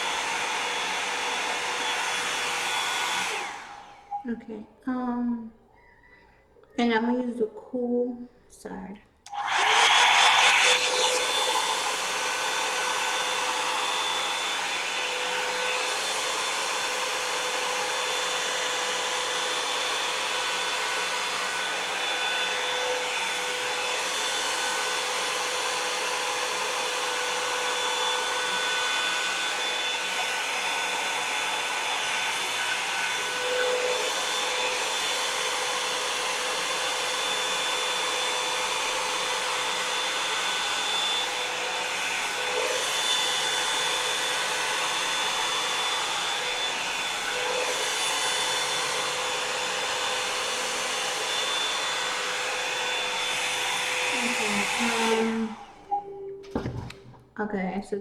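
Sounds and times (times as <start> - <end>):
hair dryer blowing air: 0.0 - 4.4, 9.3 - 57.3.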